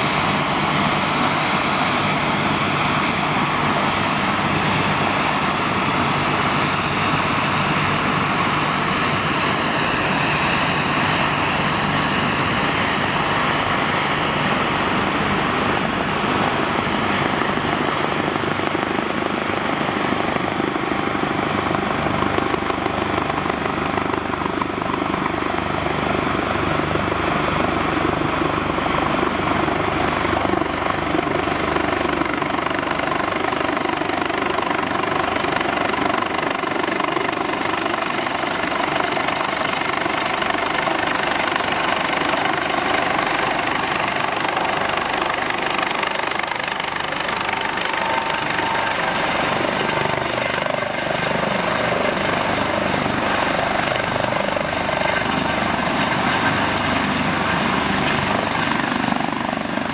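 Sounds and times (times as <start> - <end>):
helicopter rotor and turbines: 0.0 - 59.9.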